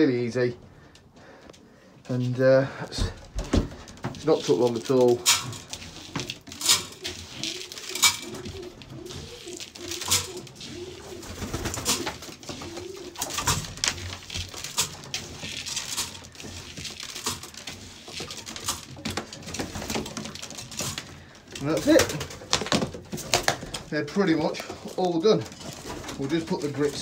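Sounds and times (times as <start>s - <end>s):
pigeons cooing: 2.8s - 27.0s.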